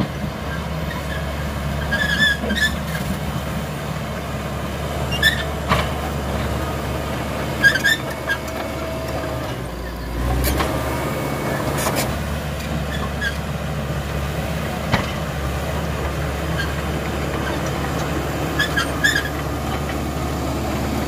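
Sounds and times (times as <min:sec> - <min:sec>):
bulldozer diesel engine under load: 0:00.0 - 0:21.0.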